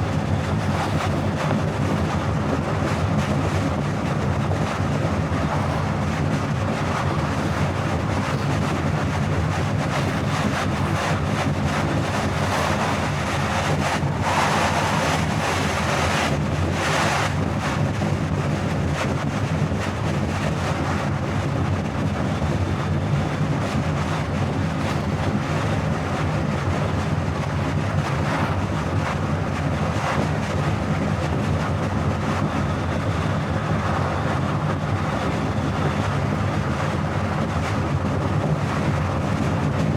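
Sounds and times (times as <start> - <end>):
car engine and tyre drone: 0.0 - 17.9, 24.0 - 39.0
wind and road noise: 0.0 - 39.9.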